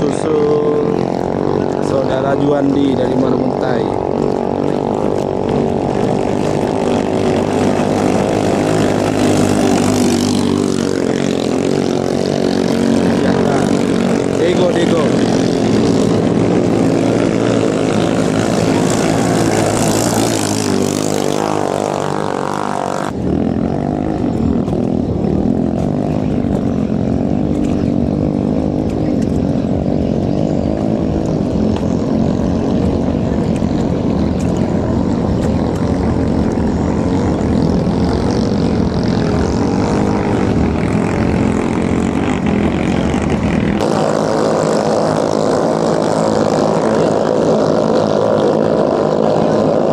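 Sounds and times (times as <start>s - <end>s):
boat engines droning at full throttle: 0.0s - 49.9s.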